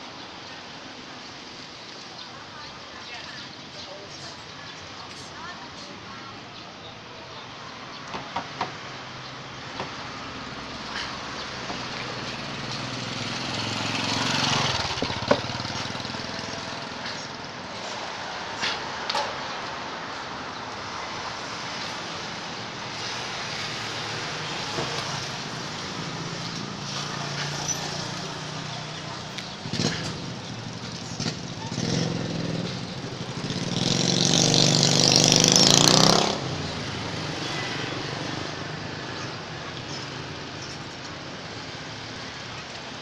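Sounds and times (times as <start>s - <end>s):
traffic hum: 0.0s - 43.0s
vehicle passing: 7.5s - 43.0s.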